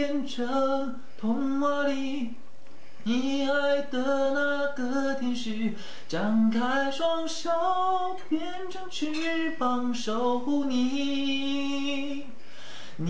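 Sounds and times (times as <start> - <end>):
man singing unaccompanied: 0.0 - 2.4, 3.0 - 12.4.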